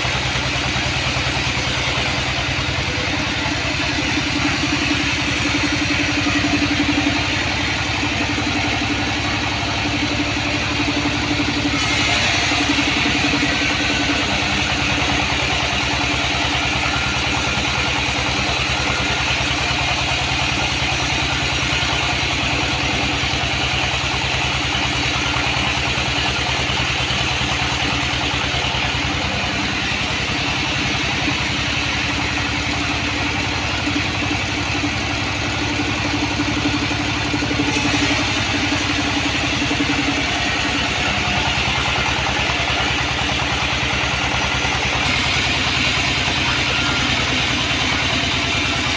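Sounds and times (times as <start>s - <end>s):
band saw humming: 0.0s - 32.4s, 36.7s - 48.9s.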